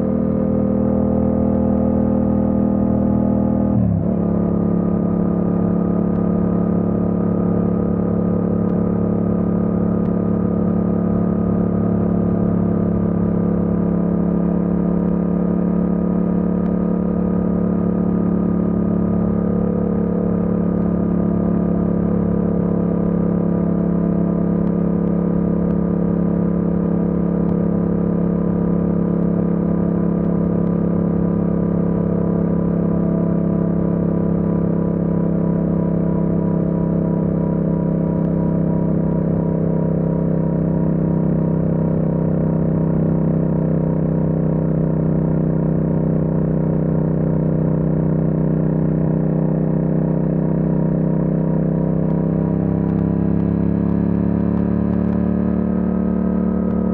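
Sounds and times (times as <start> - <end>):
motorcycle engine droning: 0.0 - 56.9.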